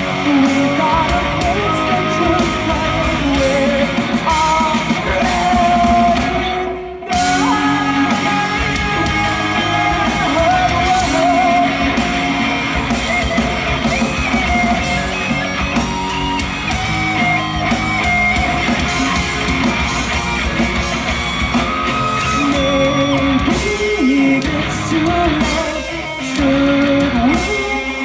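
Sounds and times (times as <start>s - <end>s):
electric guitars bending notes: 0.0s - 28.0s
steady drum beat: 0.0s - 28.0s.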